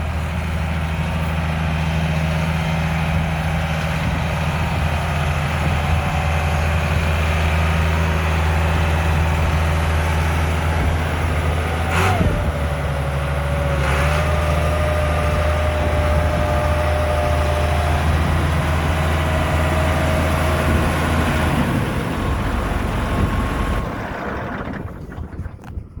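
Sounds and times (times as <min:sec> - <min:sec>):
tractor diesel engine idling: 0:00.0 - 0:26.0.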